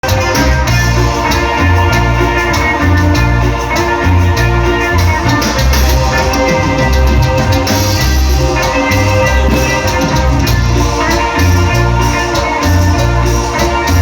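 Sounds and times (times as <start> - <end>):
drums: 0.0 - 14.0
electronic keyboard melody: 0.0 - 14.0
repeating bass line: 0.0 - 14.0.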